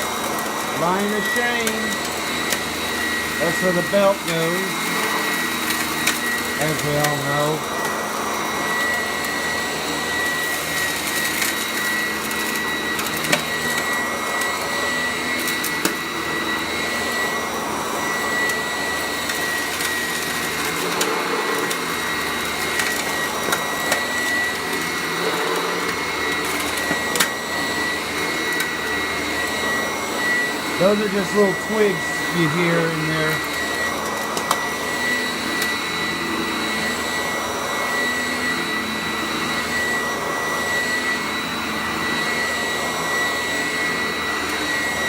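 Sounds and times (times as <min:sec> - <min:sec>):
vacuum cleaner whining: 0:00.0 - 0:45.0.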